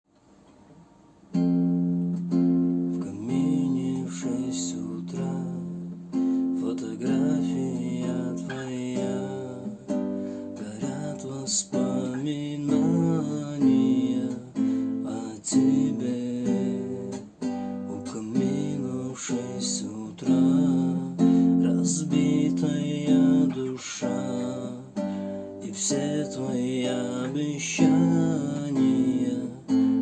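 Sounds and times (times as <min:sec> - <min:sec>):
acoustic guitar strumming: 0:01.2 - 0:30.0.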